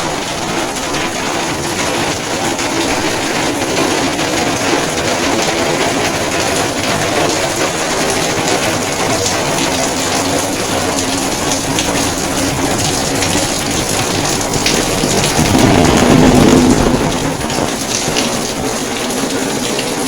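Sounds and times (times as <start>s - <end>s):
heavy rain falling: 0.0s - 20.0s
running water splashing: 0.0s - 20.0s.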